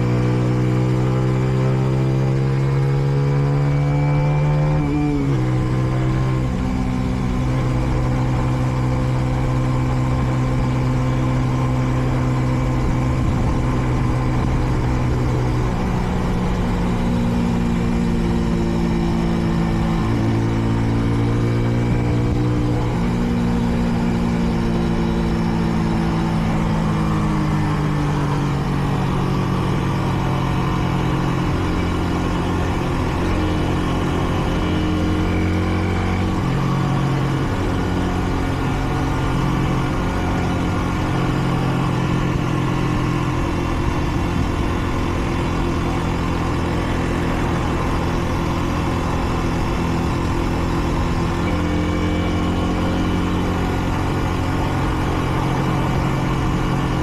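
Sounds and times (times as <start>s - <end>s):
air rush and road noise: 0.0s - 57.0s
motorcycle engine running: 0.0s - 57.0s.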